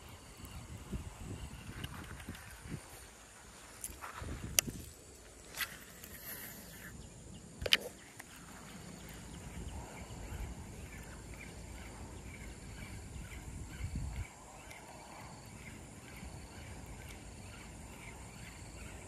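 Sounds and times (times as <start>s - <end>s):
quiet outdoor background: 0.0s - 19.0s.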